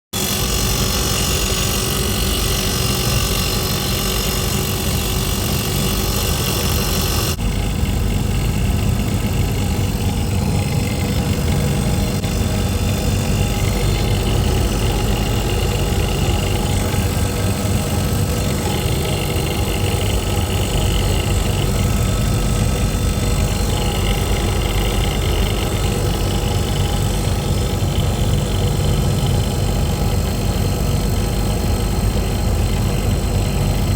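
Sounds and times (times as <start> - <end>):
compressor running with low hum: 0.1 - 33.9.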